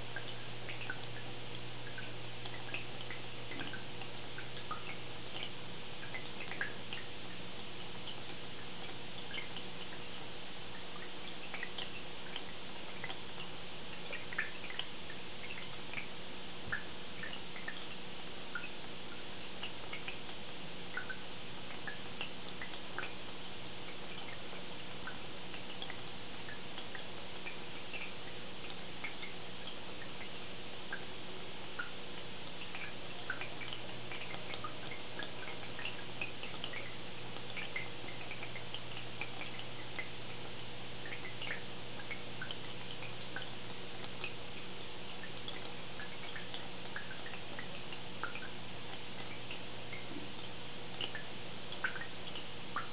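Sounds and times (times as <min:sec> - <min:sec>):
aquarium filter humming: 0:00.0 - 0:52.9
water dripping: 0:00.0 - 0:52.9.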